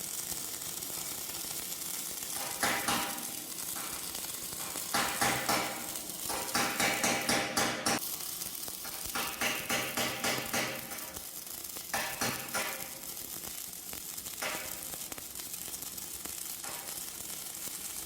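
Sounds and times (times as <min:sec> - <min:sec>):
welding crackling hiss: 0:00.0 - 0:18.0.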